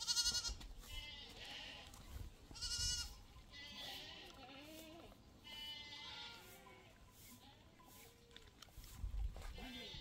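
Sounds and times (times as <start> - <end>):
goats bleating: 0.0 - 7.7, 9.5 - 10.0.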